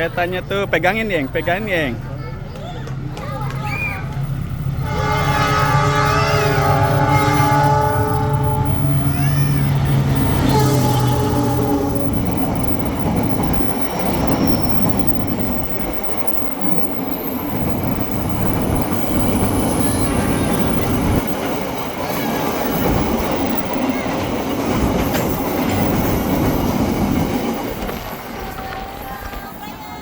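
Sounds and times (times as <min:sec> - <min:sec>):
train wheels rumbling on rails: 0:00.0 - 0:30.0
high wheel squeal: 0:03.6 - 0:30.0.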